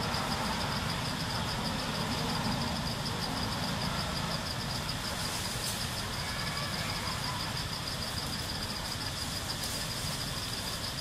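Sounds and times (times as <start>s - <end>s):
low continuous rumble: 0.0s - 11.0s.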